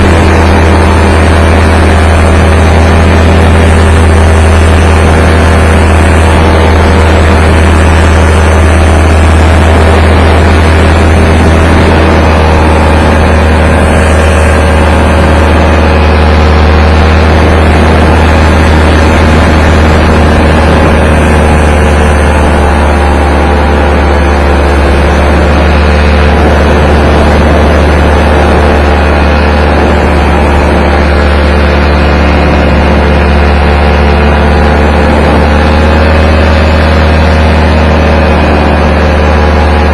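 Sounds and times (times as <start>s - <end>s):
paramotor engine running: 0.0s - 39.9s
wind rumble on microphone: 0.0s - 39.9s.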